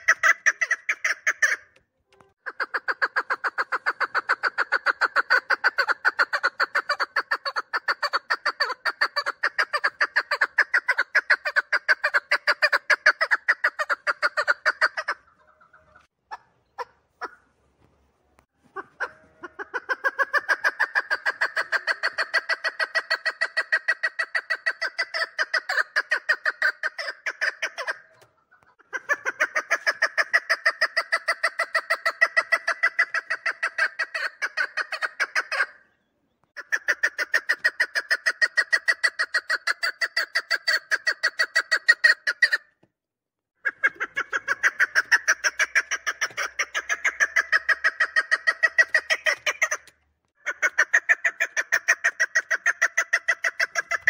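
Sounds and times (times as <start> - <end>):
partridge calling rapid notes: 0.0 - 1.8, 2.4 - 17.6, 18.6 - 35.9, 36.5 - 42.7, 43.6 - 54.0.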